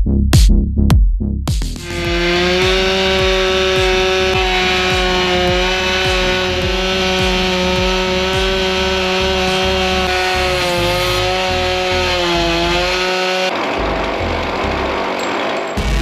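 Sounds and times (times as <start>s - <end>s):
chainsaw cutting log: 1.8s - 16.0s.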